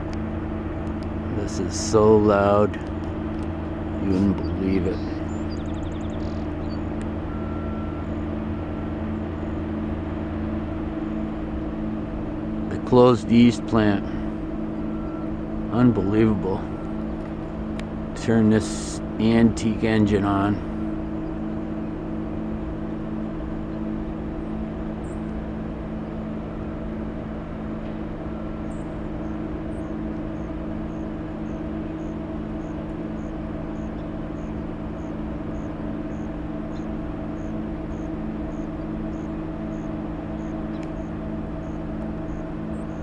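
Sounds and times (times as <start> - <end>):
industrial machinery drone: 0.0 - 43.0.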